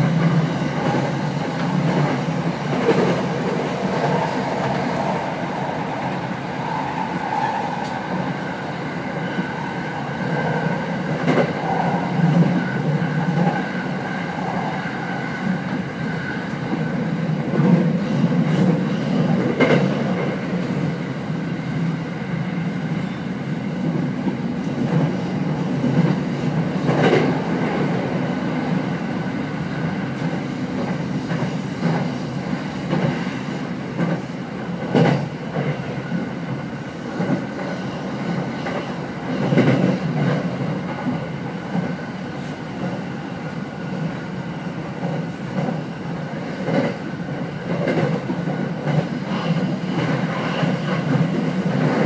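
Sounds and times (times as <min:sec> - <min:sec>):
deep rumble of train wheels: 0:00.0 - 0:52.0.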